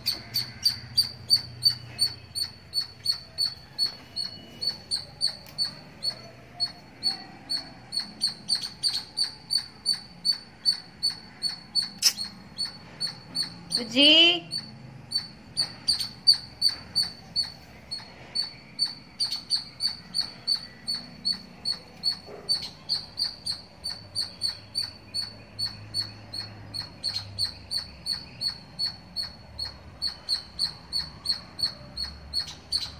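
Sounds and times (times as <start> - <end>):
small animal chirping: 0.0 - 32.9.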